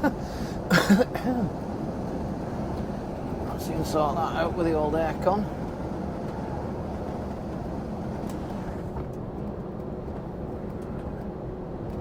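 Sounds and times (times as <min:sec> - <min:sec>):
lorry engine rumble: 0:00.0 - 0:12.0
road noise: 0:00.0 - 0:12.0.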